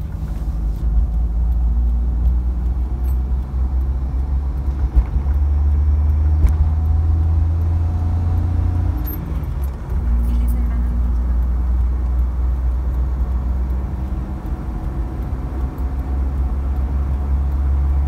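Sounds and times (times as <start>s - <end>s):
road rumble: 0.0s - 18.0s
van engine accelerating: 0.0s - 18.0s.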